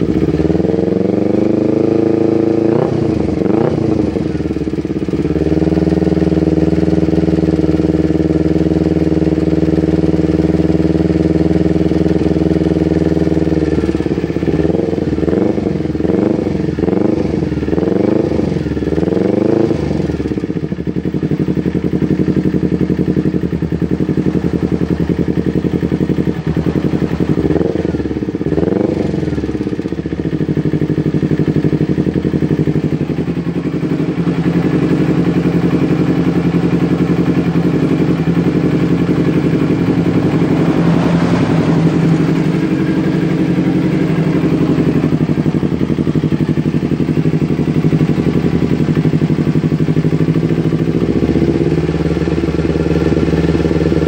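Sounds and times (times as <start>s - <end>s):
motorcycle engine revving and idling: 0.0s - 54.0s.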